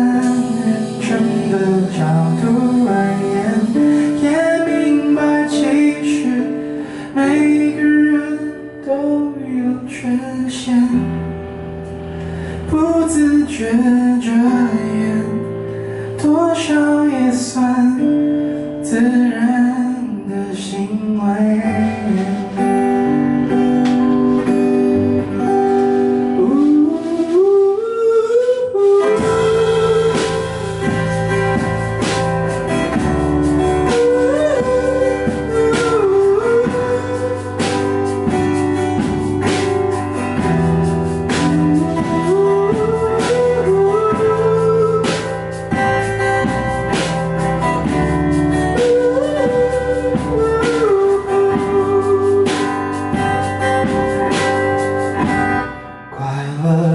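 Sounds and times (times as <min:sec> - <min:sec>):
lead guitar melody: 0:00.0 - 0:56.7
pop song accompaniment with bass: 0:00.0 - 0:56.9.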